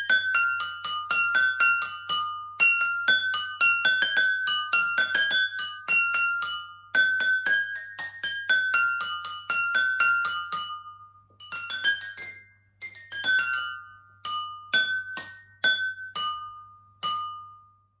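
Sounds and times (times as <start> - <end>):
water glasses struck playing a tune: 0.0 - 17.7.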